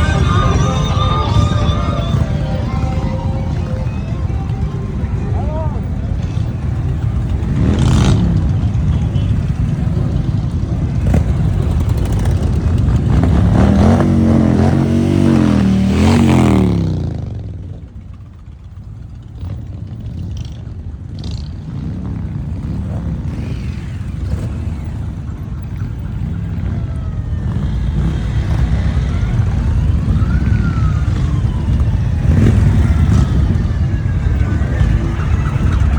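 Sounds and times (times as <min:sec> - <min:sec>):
motorcycle engines revving: 0:00.0 - 0:35.9.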